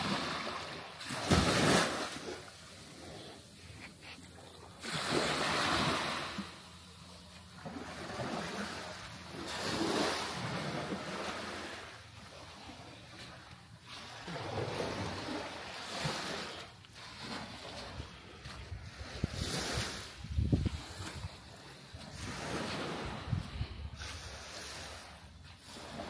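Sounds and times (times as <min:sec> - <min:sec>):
small waves washing onto beach: 0:00.0 - 0:26.0.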